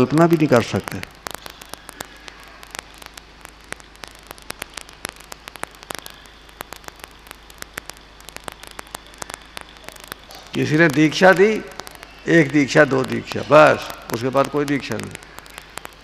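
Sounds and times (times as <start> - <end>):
crackling static: 0.0 - 16.0
low mains hum: 0.0 - 16.0.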